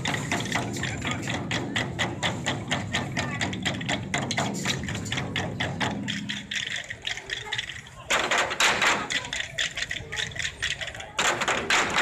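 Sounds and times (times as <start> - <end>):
barrel drums beating fast: 0.0 - 12.0.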